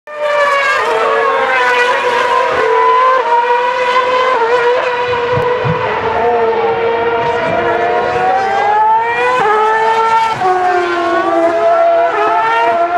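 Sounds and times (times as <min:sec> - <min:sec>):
racing car engines at high revs: 0:00.1 - 0:12.9.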